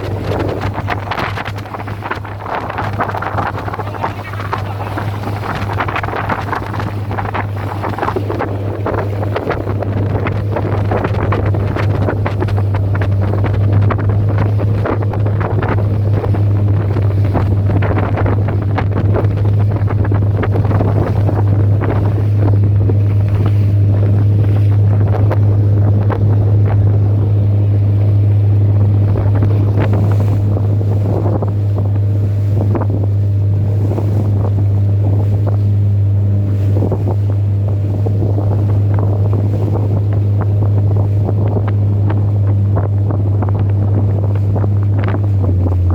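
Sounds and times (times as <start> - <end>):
boat motor humming: 0.0 - 45.9
waves splashing against hull: 0.0 - 45.9
wind buffeting microphone: 0.0 - 45.9.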